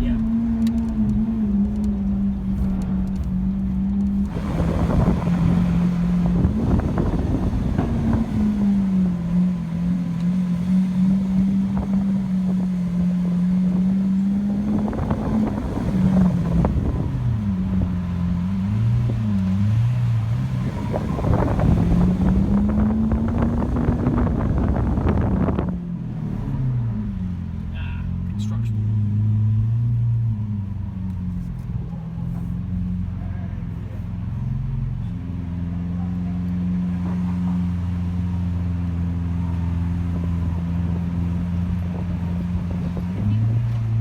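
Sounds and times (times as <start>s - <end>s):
car engine running at low revs: 0.0s - 44.0s.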